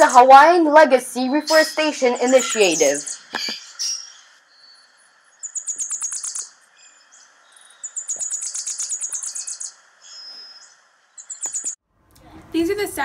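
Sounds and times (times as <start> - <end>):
bird chirping rapidly: 0.0 - 0.6, 1.2 - 11.8.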